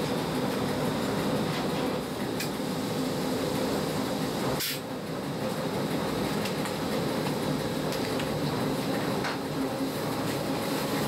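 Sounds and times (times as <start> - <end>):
electric train motors humming: 0.0 - 11.0.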